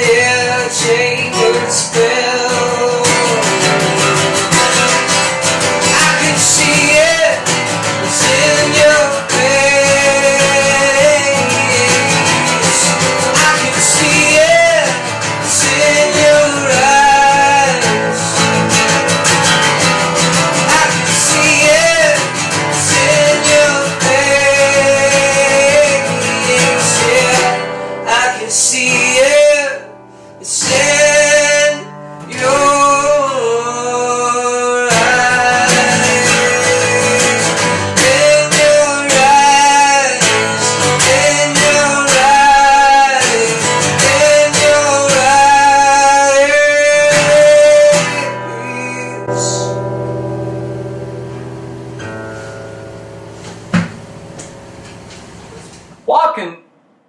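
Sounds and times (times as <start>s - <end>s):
man singing: 0.0s - 49.8s
acoustic guitar strumming: 0.0s - 57.0s.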